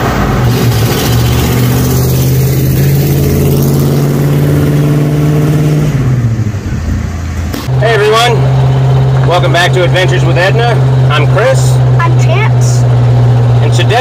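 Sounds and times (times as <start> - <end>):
pickup engine running: 0.0 - 14.0.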